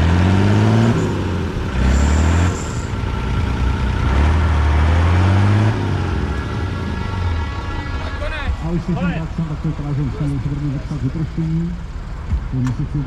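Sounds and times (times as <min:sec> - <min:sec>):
truck engine revving in bursts: 0:00.0 - 0:13.0.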